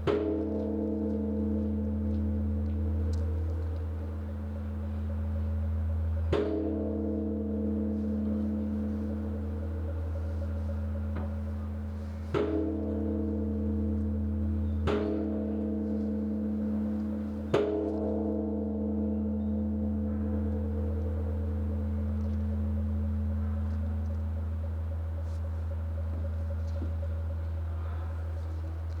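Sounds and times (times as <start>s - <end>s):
large bronze temple bell ringing: 0.0s - 29.0s.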